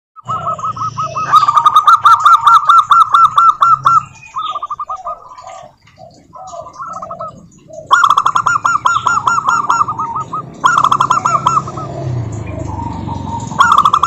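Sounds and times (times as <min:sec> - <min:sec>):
doves cooing: 0:00.2 - 0:14.0
lower-pitched bird notes: 0:00.2 - 0:14.0.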